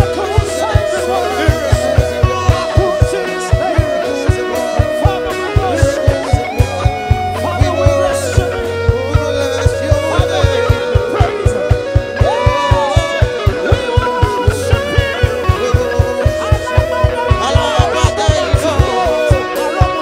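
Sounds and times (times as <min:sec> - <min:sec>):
fast kick drum beat: 0:00.0 - 0:20.0
live band playing praise music: 0:00.0 - 0:20.0.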